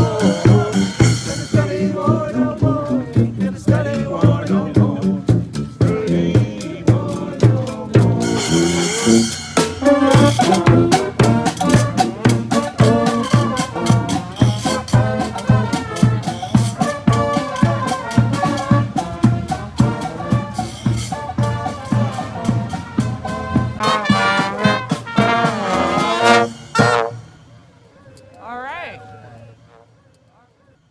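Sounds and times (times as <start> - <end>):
steady drum beat: 0.0 - 27.2
trumpets and trombones: 0.0 - 27.6, 29.6 - 30.0.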